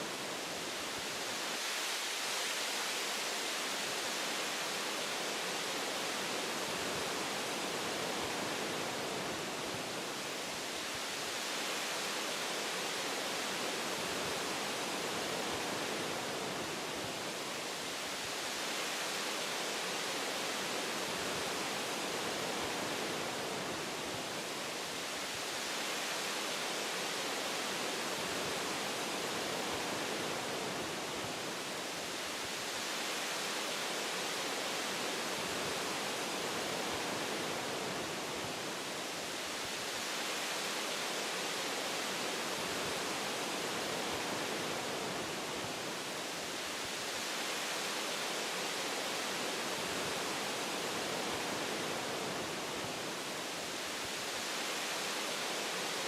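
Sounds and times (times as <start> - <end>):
wind rushing through branches: 0.0 - 56.0.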